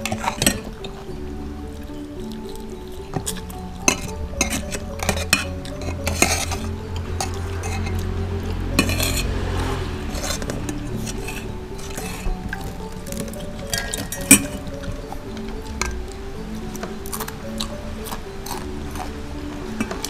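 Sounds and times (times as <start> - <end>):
spoons clinking on plates: 0.0 - 9.4, 10.1 - 19.0, 19.7 - 20.0.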